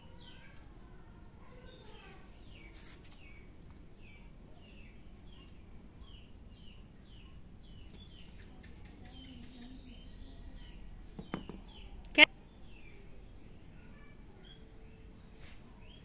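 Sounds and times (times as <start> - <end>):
faint background noise: 0.0 - 16.0
bird chirping: 1.6 - 16.0.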